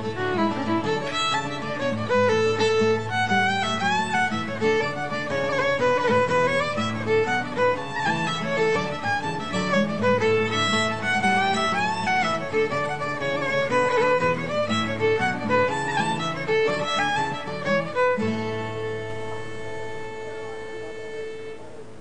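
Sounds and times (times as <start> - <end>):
instrumental background music: 0.0 - 21.6.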